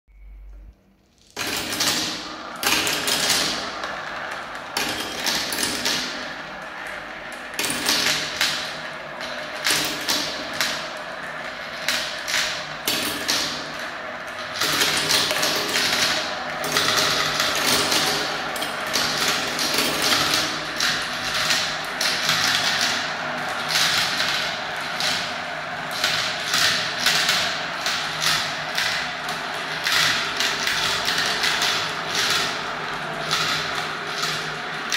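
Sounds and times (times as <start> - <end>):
plastic balls rattling in marble run: 1.2 - 34.9.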